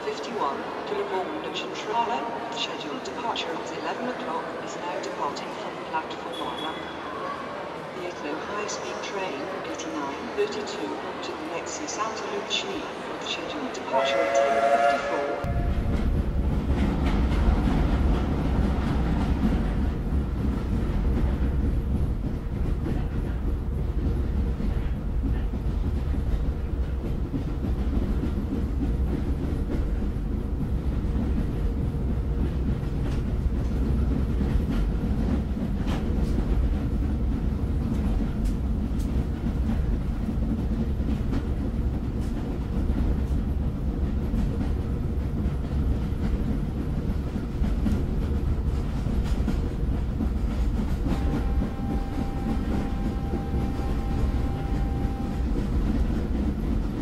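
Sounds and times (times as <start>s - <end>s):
train rumbling on rails: 7.7s - 57.0s.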